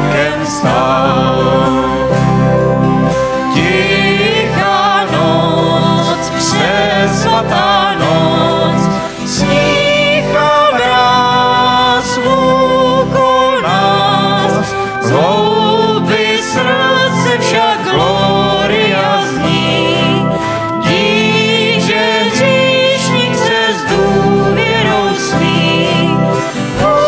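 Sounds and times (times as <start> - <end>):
acoustic guitar: 0.0 - 27.0
bass guitar: 0.0 - 27.0
keyboard: 0.0 - 27.0
woman singing with vibrato: 3.4 - 27.0.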